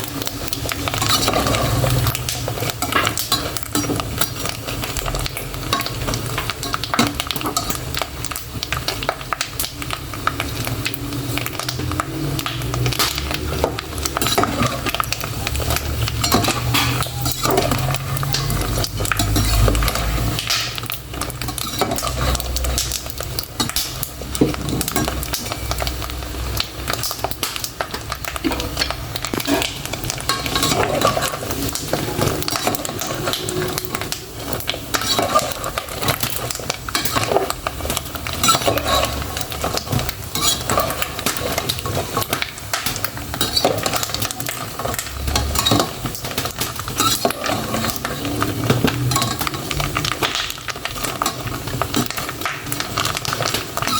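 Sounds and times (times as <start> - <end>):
pork rinds frying in oil: 0.0 - 53.9.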